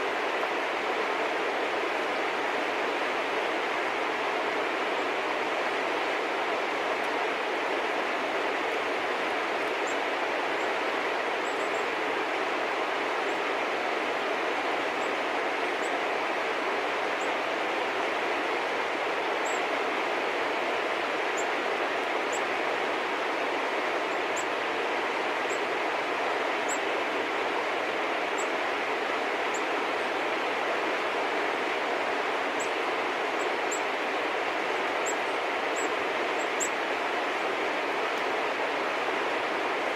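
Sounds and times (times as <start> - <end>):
rushing background noise: 0.0 - 39.9.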